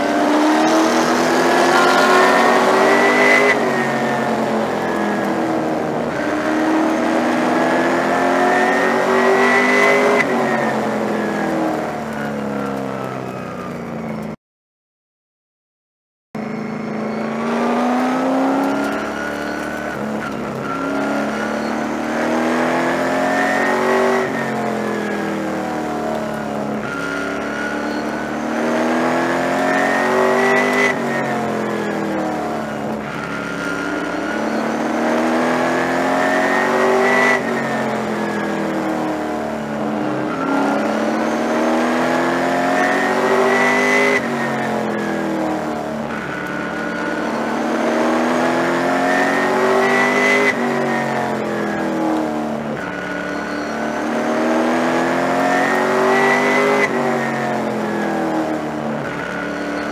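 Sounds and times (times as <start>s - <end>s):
race car engine revving: 0.0s - 13.4s, 16.4s - 59.9s.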